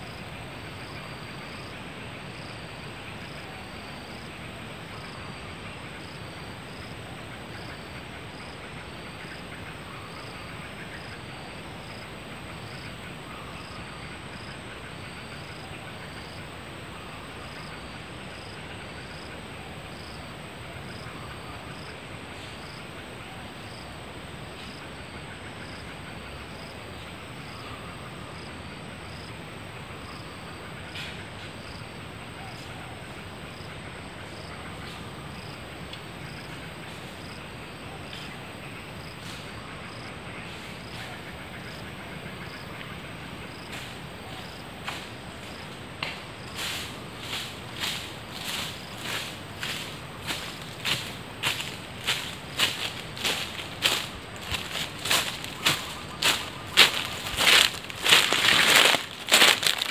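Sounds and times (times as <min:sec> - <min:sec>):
insect chirp: 0:00.0 - 0:59.9.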